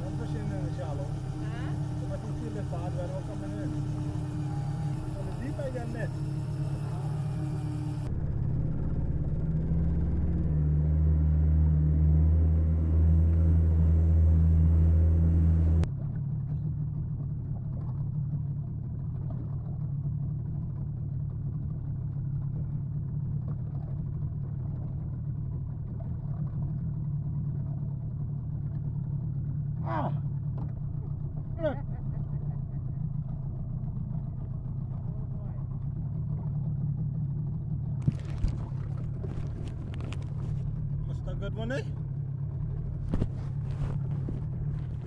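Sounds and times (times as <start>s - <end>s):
outboard motor droning: 0.0s - 45.0s
quieter low rumble: 0.0s - 45.0s.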